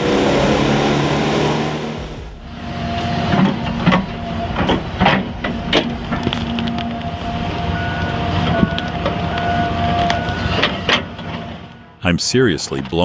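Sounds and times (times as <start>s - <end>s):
diesel engine running: 0.0s - 11.9s
machine whine: 0.0s - 12.0s.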